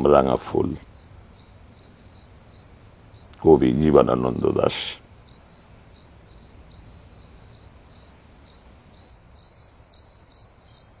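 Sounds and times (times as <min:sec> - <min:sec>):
cricket chirping: 0:00.0 - 0:11.0
faint low background noise: 0:00.0 - 0:11.0.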